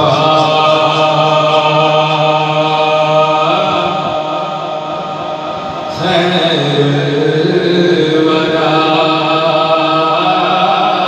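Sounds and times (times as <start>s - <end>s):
man chanting through microphone: 0.0s - 11.0s.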